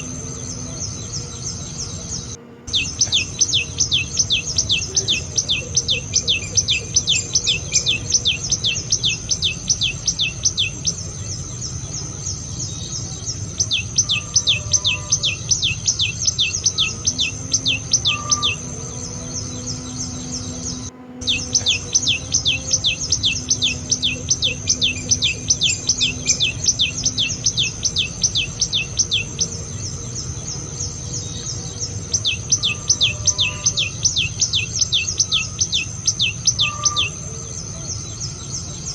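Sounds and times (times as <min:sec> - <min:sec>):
bird calling sharp high notes: 0:00.0 - 0:37.7.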